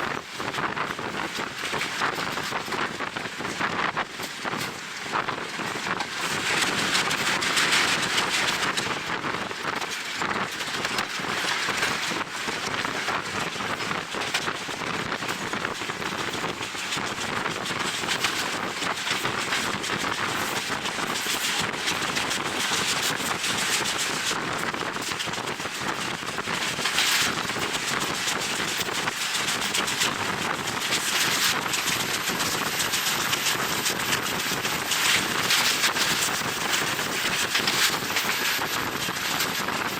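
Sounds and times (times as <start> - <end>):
wind buffeting microphone: 0.1 - 39.9
passenger train running: 0.2 - 39.9.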